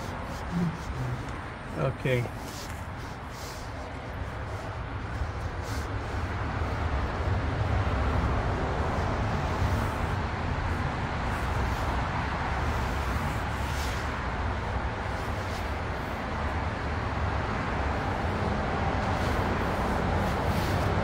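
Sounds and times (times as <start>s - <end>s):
road traffic rumble and hiss: 0.0s - 21.0s.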